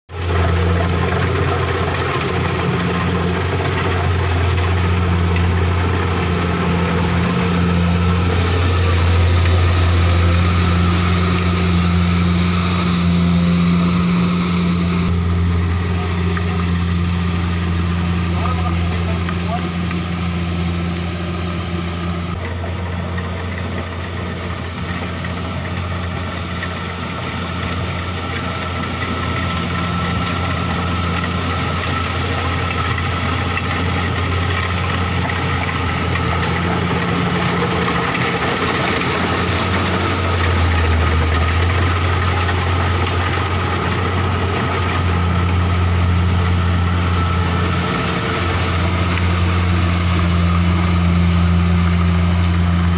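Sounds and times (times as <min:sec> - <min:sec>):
harvester engine running: 0:00.1 - 0:52.9.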